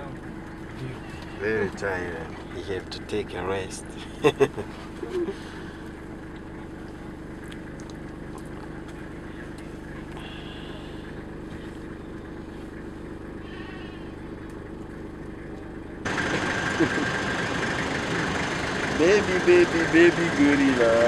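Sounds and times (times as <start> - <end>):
rough outdoor noise: 0.0 - 21.0
vehicle cabin drone: 0.0 - 21.0.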